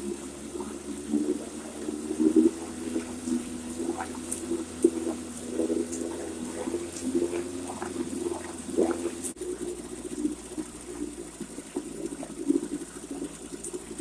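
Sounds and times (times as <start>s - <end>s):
exhaust gurgling through water: 0.0s - 14.0s
outboard motor running: 0.0s - 14.0s.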